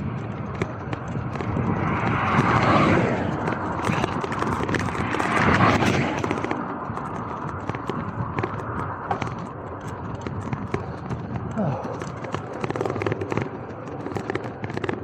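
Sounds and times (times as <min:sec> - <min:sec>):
bike clicks and ticks: 0:00.0 - 0:15.0
bike tyres rushing on wet road: 0:00.0 - 0:15.0.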